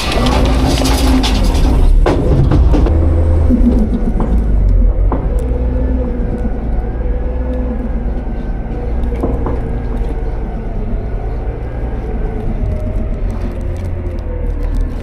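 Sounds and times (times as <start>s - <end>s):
garbage truck engine rumble: 0.0s - 15.0s
held hum: 0.0s - 15.0s.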